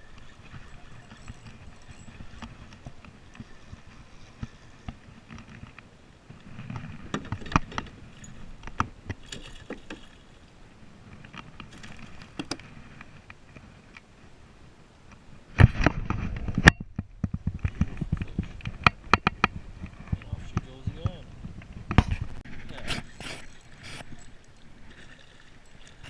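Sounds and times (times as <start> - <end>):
water movement rumble: 0.0 - 26.0.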